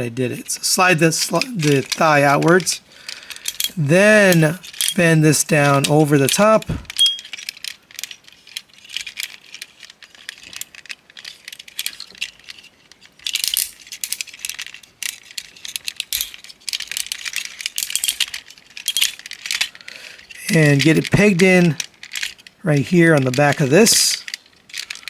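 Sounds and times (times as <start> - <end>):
plastic toy parts clicking: 0.4 - 25.0.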